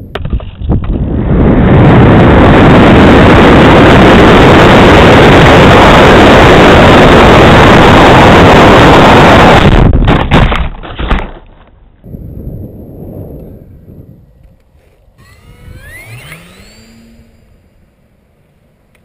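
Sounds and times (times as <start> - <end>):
overloaded wind noise on microphone: 0.0 - 10.8, 12.0 - 19.0.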